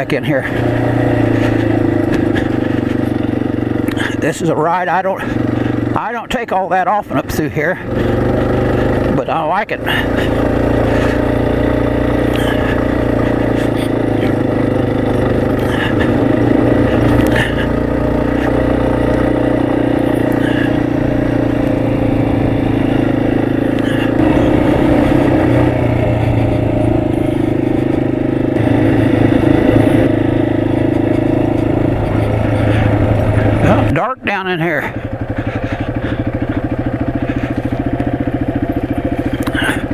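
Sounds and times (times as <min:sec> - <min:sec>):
bike clicks and clatter: 0:00.0 - 0:04.2, 0:09.8 - 0:33.8, 0:34.8 - 0:39.9
motorcycle engine running: 0:00.0 - 0:39.9.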